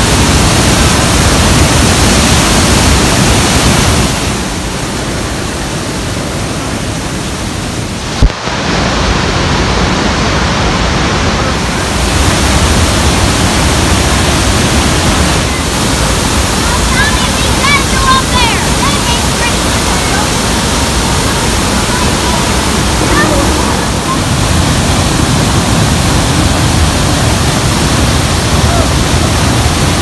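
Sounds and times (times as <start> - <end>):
waterfall crashing onto rocks: 0.0 - 30.0.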